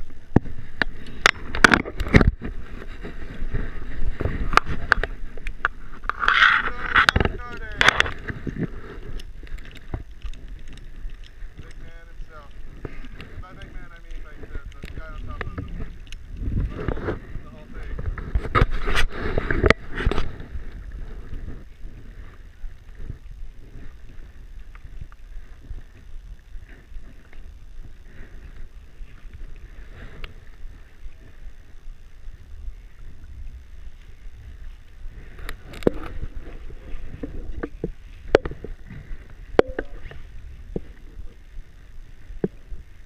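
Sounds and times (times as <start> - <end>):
wind on microphone: 0.0 - 43.0.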